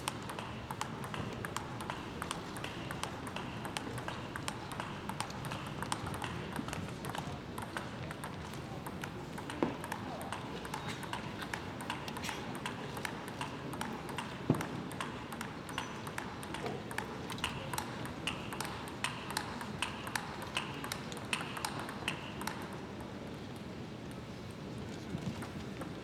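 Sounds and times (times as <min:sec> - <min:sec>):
table tennis ball clicking: 0:00.1 - 0:23.6.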